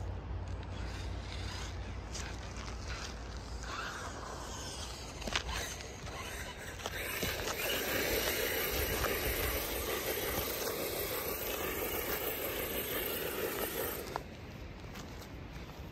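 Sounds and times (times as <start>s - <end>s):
tyres churning gravel: 0.4s - 15.7s.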